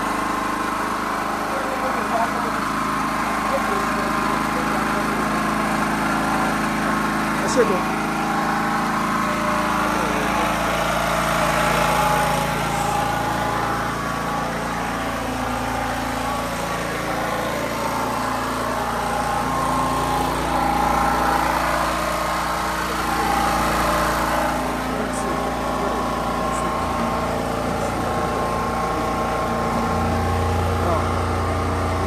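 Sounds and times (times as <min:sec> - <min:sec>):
portable generator engine running: 0:00.0 - 0:32.0.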